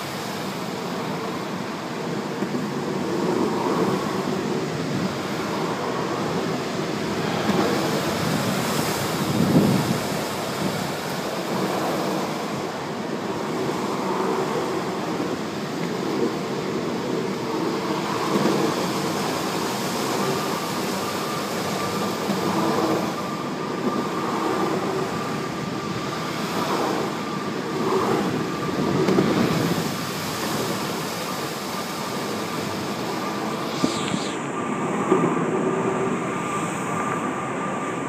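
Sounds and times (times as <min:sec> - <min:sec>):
faint high whine: 0:00.0 - 0:38.0
longboard wheels rolling on concrete: 0:02.0 - 0:36.2.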